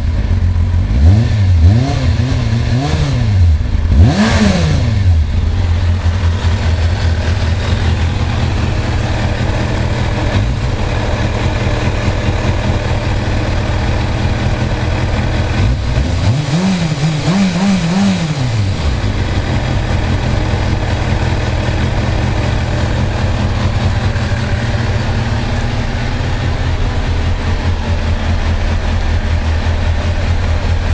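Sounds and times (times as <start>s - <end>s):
motorcycle engine idling: 0.0s - 1.2s, 2.8s - 30.9s
engine revving with throttle blips: 0.0s - 30.9s.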